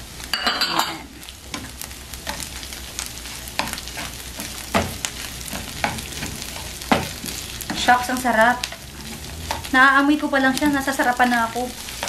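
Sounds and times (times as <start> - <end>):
meat sizzling in a frying pan: 0.0 - 12.0
spatula scraping a pan: 0.4 - 9.9, 10.6 - 12.0.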